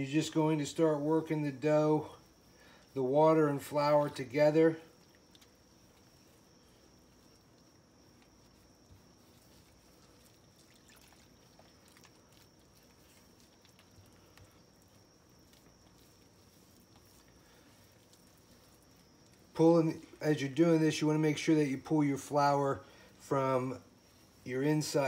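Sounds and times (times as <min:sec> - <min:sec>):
faint hiss: 0:00.0 - 0:25.0
hand mixing dough squelching: 0:00.0 - 0:25.0.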